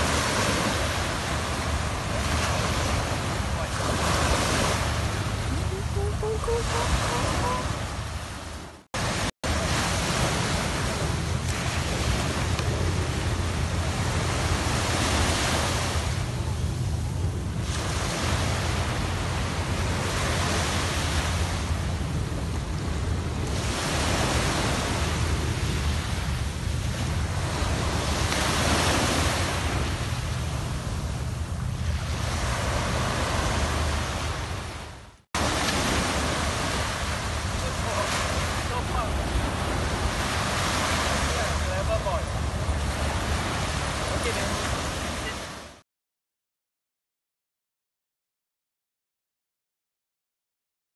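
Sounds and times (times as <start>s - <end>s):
wind rumble on microphone: 0.0s - 45.7s
surf washing onto a beach: 0.0s - 45.8s.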